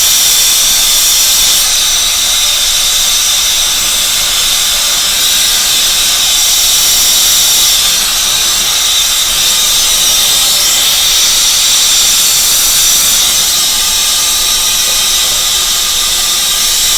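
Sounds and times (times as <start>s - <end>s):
torch flame hissing: 0.0s - 16.9s.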